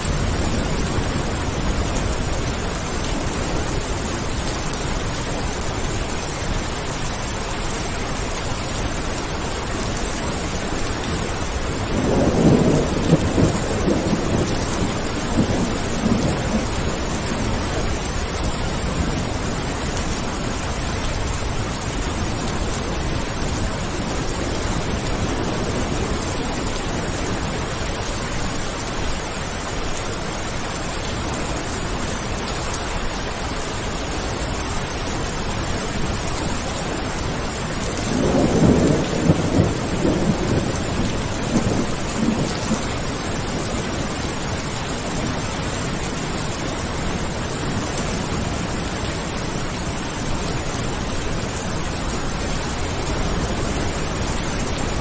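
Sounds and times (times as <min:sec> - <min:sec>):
thunder rumbling: 0:00.0 - 0:08.8, 0:09.6 - 0:30.1, 0:34.0 - 0:55.0
steady rain: 0:00.0 - 0:55.0.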